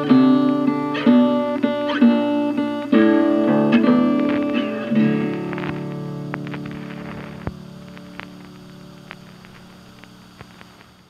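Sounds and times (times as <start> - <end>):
acoustic guitar picking: 0.0 - 10.4.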